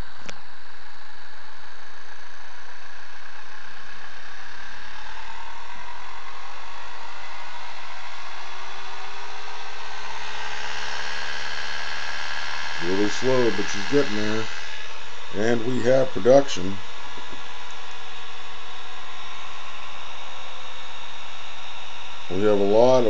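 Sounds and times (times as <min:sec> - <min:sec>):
motor whirring: 0:00.0 - 0:23.0.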